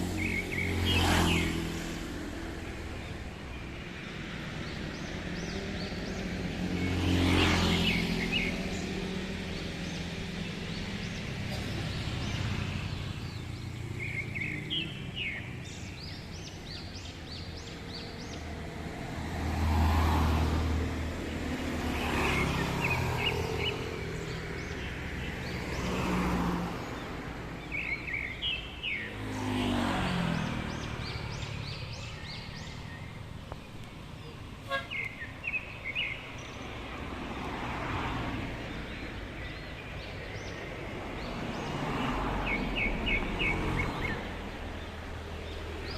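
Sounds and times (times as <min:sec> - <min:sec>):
birds chirping: 0:00.0 - 0:45.9
road traffic passing: 0:00.0 - 0:45.9.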